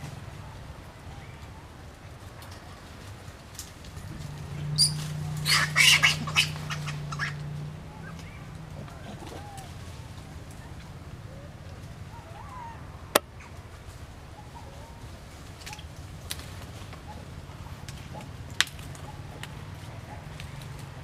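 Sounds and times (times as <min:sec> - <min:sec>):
noisy animal calls: 0:00.0 - 0:21.0.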